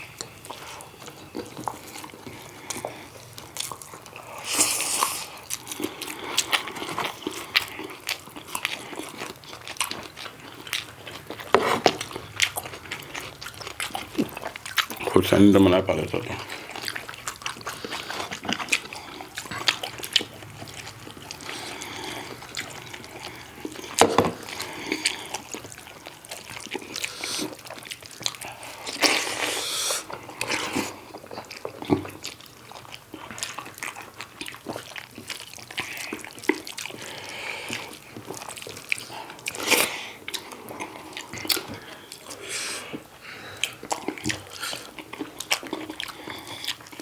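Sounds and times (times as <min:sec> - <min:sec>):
wet chewing and lip smacks: 0:00.0 - 0:15.4, 0:16.1 - 0:47.0.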